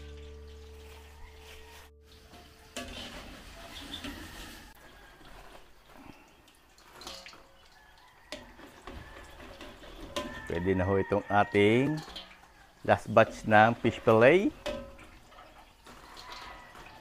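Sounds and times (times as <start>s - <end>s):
fish deep-frying in hot oil: 0.0s - 17.0s.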